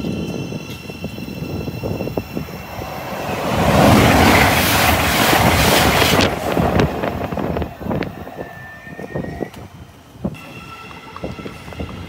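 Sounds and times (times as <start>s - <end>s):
train rushing past: 0.0s - 12.0s
train wheels clicking on rails: 0.0s - 12.0s.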